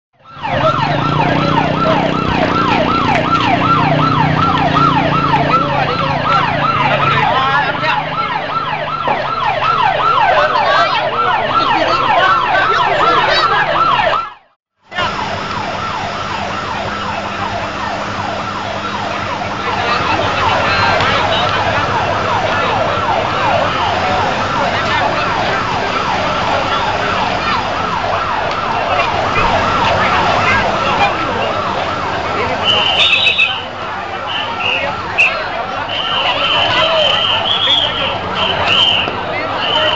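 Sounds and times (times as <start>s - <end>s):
siren yelping: 0.2s - 39.9s.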